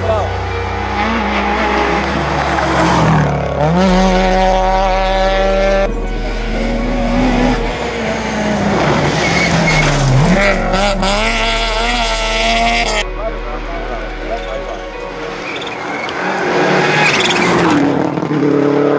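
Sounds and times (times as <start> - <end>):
rally car engines revving: 0.0 - 18.9.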